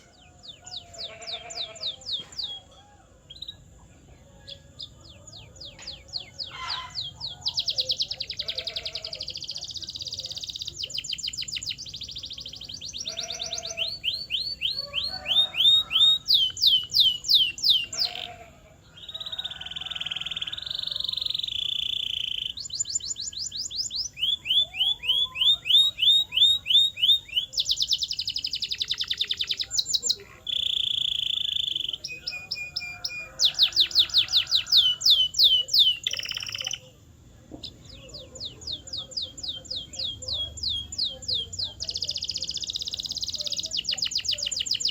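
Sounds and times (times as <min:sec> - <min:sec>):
canary singing trills and whistles: 0:04.4 - 0:18.4, 0:19.0 - 0:37.0, 0:37.6 - 0:44.9.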